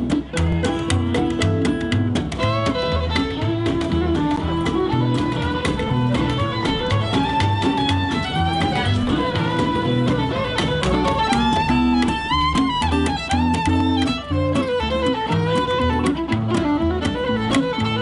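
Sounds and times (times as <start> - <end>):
strummed guitar: 0.0 - 18.0
violin melody: 0.0 - 18.0.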